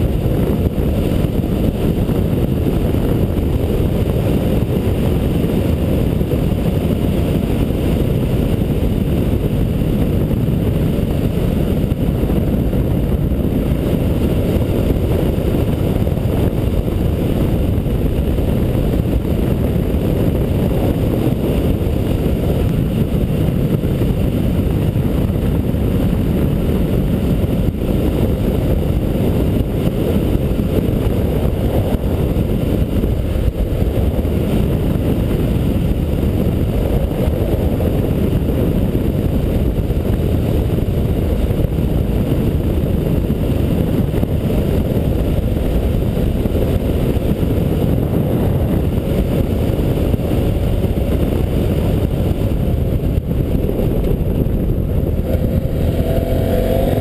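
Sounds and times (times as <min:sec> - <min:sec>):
motorcycle engine rumble: 0:00.0 - 0:57.0
wind on microphone: 0:00.0 - 0:57.0.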